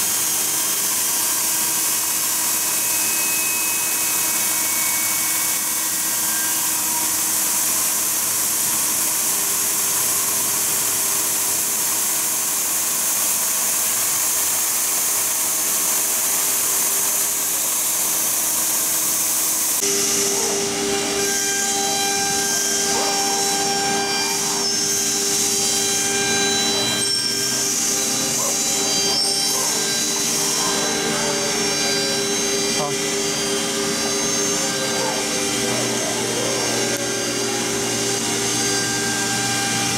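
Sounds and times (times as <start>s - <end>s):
router spindle milling metal: 0.0s - 39.9s.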